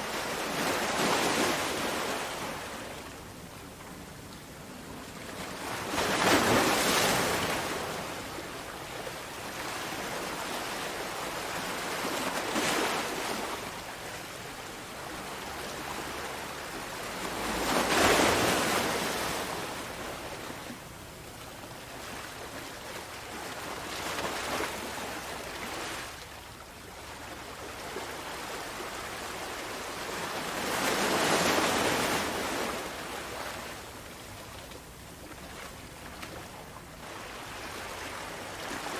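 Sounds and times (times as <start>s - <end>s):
sea waves breaking on shore: 0.0s - 3.5s, 4.8s - 20.9s, 21.7s - 38.9s.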